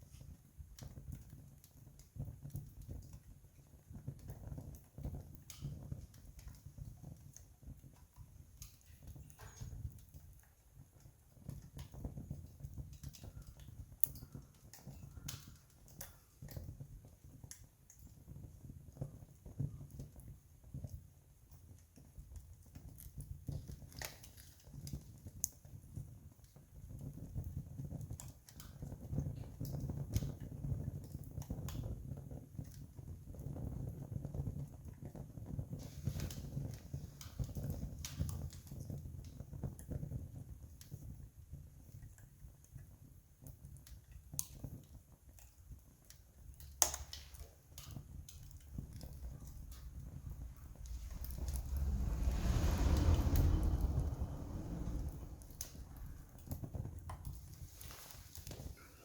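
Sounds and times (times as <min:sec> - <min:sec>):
campfire crackling: 0:00.1 - 0:59.0.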